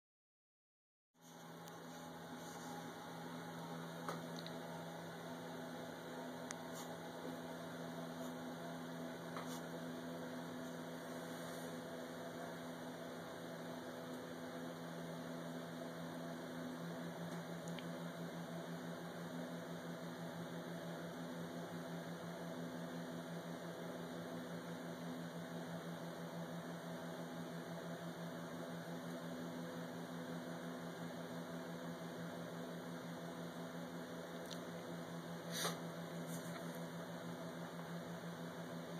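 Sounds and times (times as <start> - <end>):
steady mechanical hum: 1.2 - 38.9.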